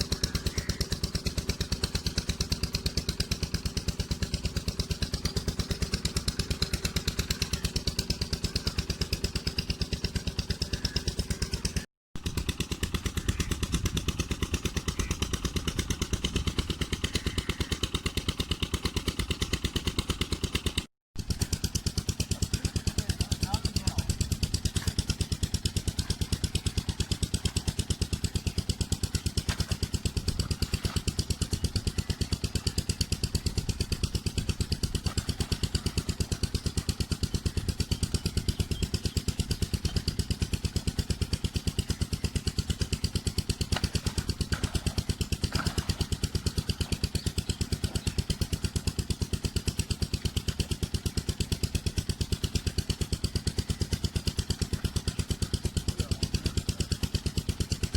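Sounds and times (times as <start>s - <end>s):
diesel engine chugging: 0.0s - 57.9s.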